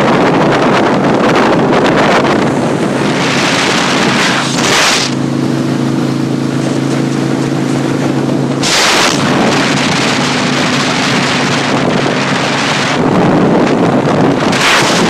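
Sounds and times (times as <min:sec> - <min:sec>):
vehicle engine running: 0:00.0 - 0:15.0
wind noise on microphone: 0:00.0 - 0:15.0.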